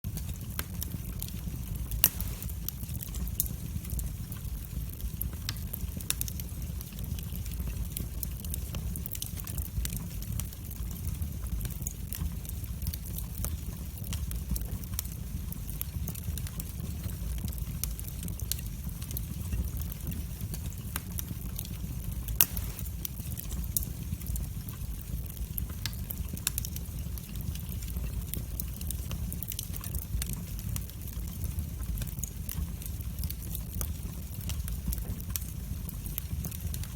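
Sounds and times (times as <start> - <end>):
fire crackling and popping: 0.0 - 36.9
flames rumbling: 0.0 - 36.9.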